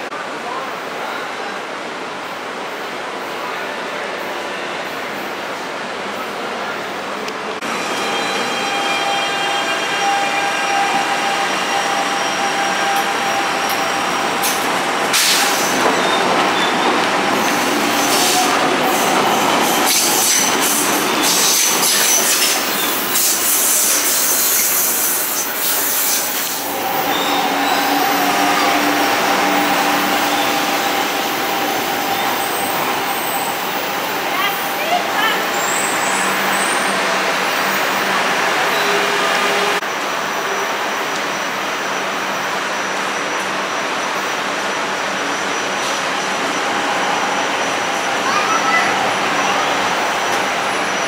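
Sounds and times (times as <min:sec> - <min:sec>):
train wheels rumbling on track: 0:03.5 - 0:51.0.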